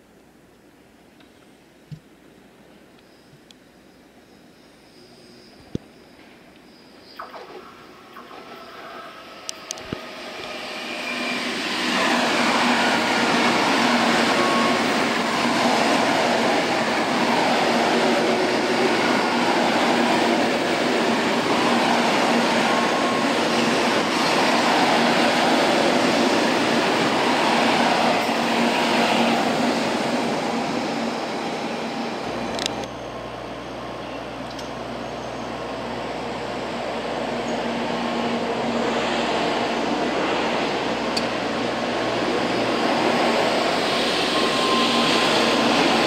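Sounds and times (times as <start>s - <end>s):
high-speed train passing: 4.0s - 46.0s.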